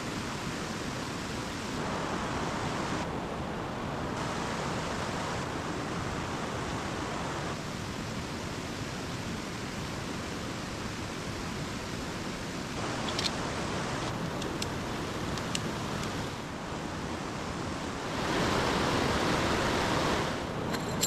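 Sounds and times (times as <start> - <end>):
mountain stream rushing: 0.0 - 21.0.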